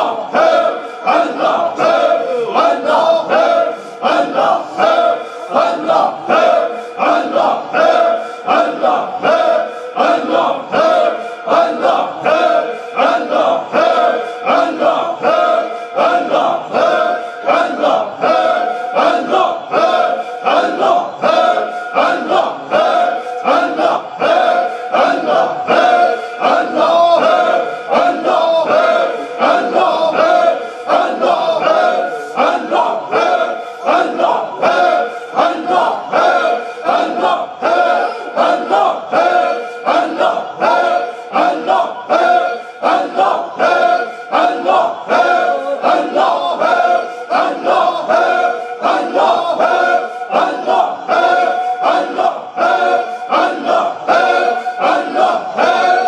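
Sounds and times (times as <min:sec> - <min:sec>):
men chanting in rhythm: 0:00.0 - 0:56.0.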